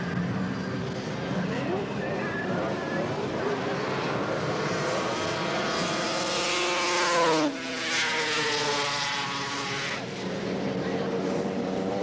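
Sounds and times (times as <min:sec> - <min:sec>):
snowmobile engine at full throttle: 0:00.0 - 0:12.0.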